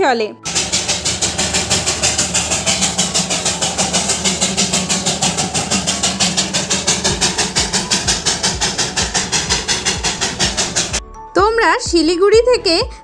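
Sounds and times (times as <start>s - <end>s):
low hum: 0.4s - 11.0s
steam locomotive puffing: 0.4s - 11.0s.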